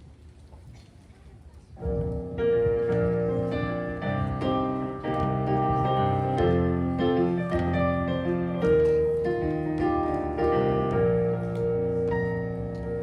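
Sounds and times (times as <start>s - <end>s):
piano playing chords and melody: 2.0s - 13.0s.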